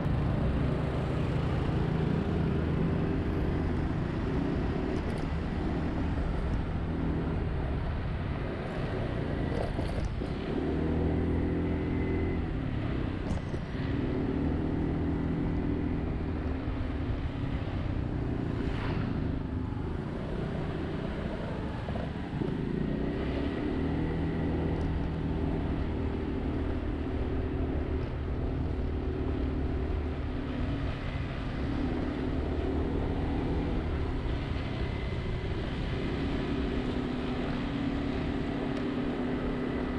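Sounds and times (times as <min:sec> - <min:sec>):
road and traffic noise: 0:00.0 - 0:39.9.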